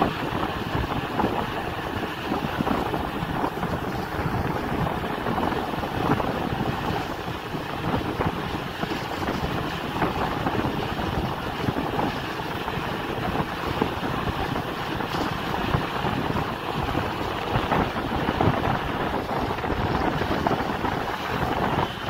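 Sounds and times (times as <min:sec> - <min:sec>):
road noise of moving vehicle: 0:00.0 - 0:22.0
wind buffeting microphone: 0:00.0 - 0:22.0.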